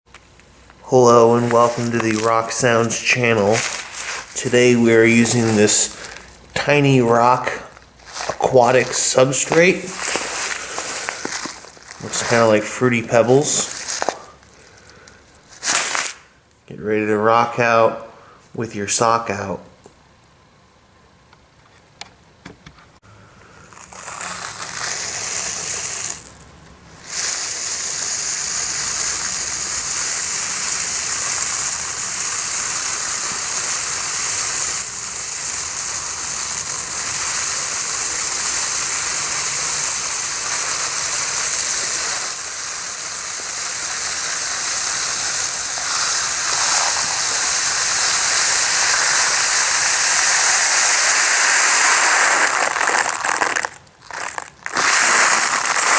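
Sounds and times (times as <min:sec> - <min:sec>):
pebbles pouring in a stream: 0:00.7 - 0:16.2, 0:23.6 - 0:55.9.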